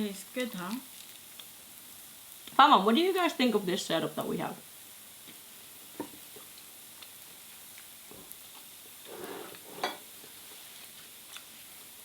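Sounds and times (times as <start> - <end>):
batter sizzling in a pan: 0.0 - 12.0.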